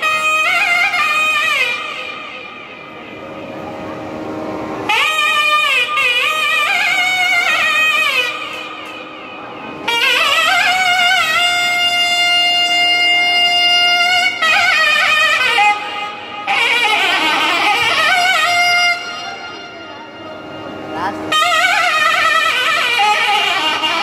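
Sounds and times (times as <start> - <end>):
double-reed wind instrument melody: 0.0 - 24.0.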